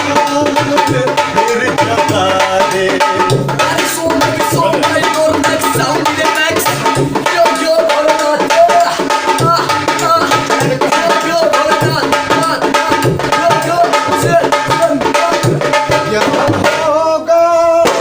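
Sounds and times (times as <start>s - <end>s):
dholak drum rhythm: 0.0s - 18.0s.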